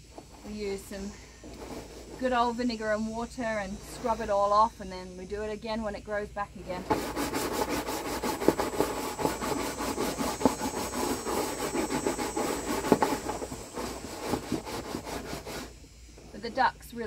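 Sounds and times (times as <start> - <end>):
scrub brush scrubbing plastic: 0.0 - 4.6, 6.6 - 17.0.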